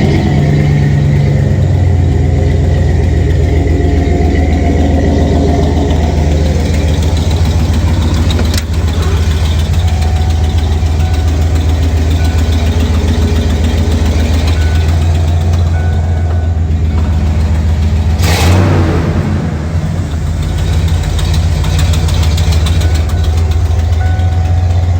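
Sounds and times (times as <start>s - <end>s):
truck engine running: 0.0s - 24.9s.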